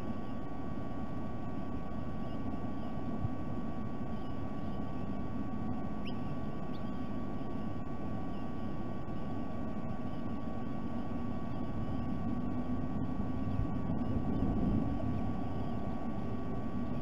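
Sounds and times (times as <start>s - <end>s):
low outdoor rumble: 0.0s - 17.0s
thin electrical hum: 0.0s - 17.0s.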